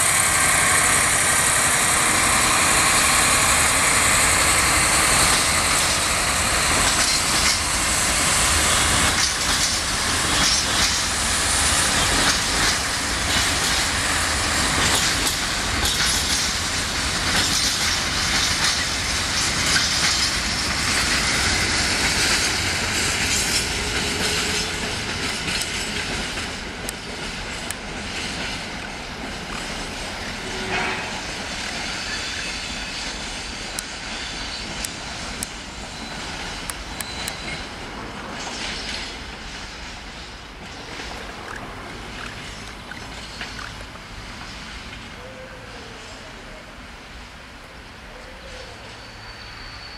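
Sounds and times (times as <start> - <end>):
freight train wheels clacking: 0.0 - 45.2.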